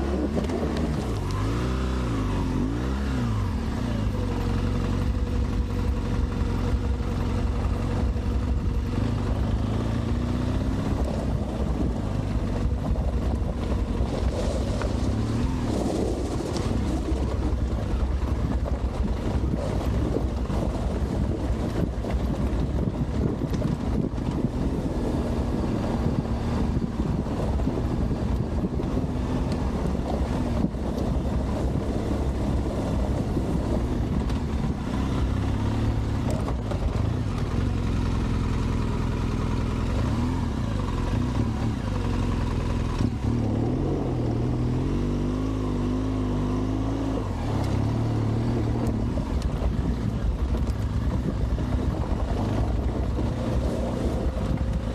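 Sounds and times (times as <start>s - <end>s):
steady rushing noise: 0.0s - 45.9s, 47.2s - 54.9s
motorcycle engine running: 0.0s - 54.9s.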